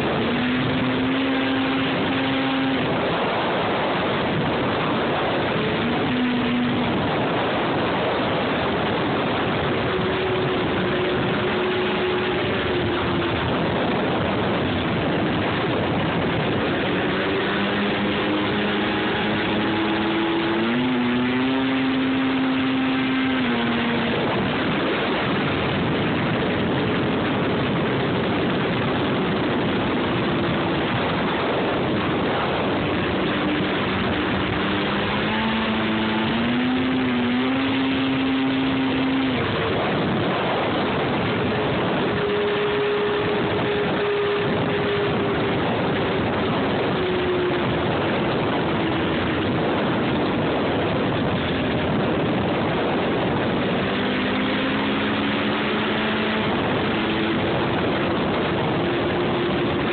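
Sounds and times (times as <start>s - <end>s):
snowmobile engine running: 0.0s - 59.9s
steady rushing noise: 0.0s - 59.9s.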